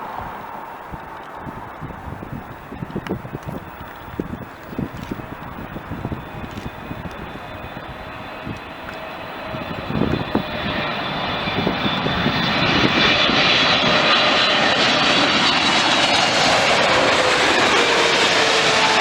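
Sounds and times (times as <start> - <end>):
high engine whine: 0.0 - 19.0
jet engines roaring: 0.0 - 19.0.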